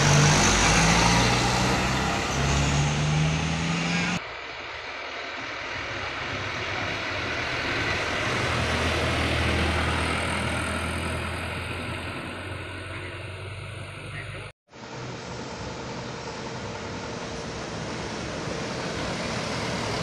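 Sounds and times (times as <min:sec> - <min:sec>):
truck approaching: 0:00.0 - 0:20.0
truck engine passing: 0:00.0 - 0:20.0.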